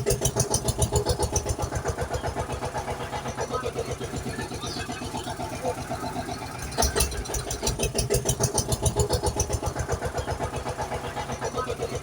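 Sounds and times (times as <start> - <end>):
vehicle engine starting and chugging: 0.0 - 12.0.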